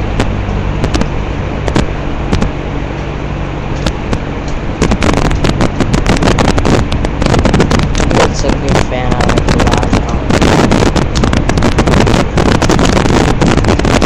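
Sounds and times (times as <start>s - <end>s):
box fan running: 0.0s - 14.0s
sharp crackles: 0.0s - 14.0s.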